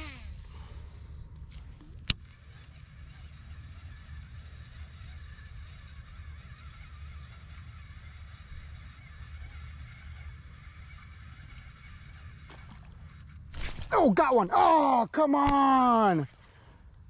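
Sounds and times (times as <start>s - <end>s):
continuous low rumble: 0.0s - 17.0s.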